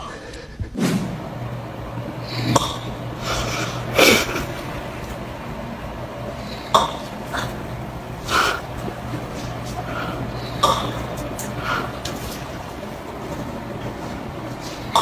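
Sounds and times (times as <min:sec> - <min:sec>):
steady low hum: 0:00.8 - 0:15.0
sleeping person snorting: 0:01.0 - 0:15.0.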